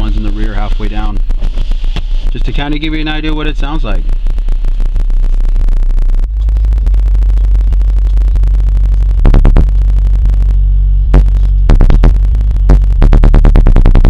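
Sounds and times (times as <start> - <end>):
bass-heavy music through subwoofers: 0.0 - 14.0.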